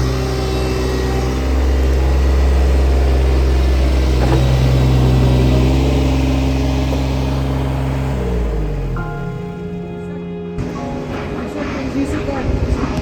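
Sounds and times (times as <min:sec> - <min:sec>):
mini digger diesel engine running: 0:00.0 - 0:13.0.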